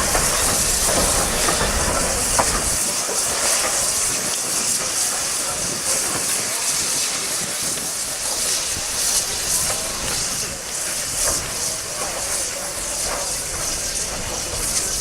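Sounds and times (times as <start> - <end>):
steam locomotive hissing steam: 0.0 - 15.0.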